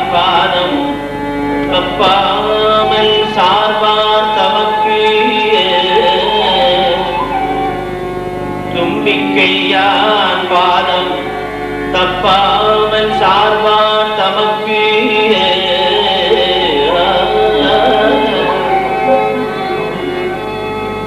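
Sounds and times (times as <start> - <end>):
man singing: 0.0 - 1.0, 1.7 - 7.7, 8.7 - 19.8
harmonium drone: 0.0 - 21.0
violin accompaniment: 0.0 - 21.0.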